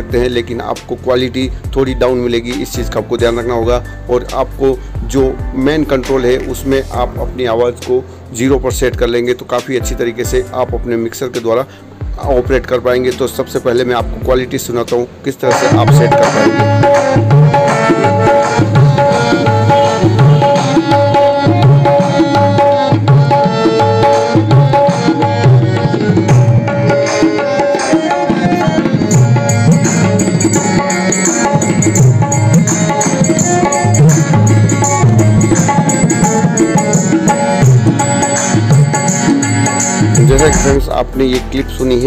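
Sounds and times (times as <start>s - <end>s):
tabla rhythm: 0.0s - 42.0s.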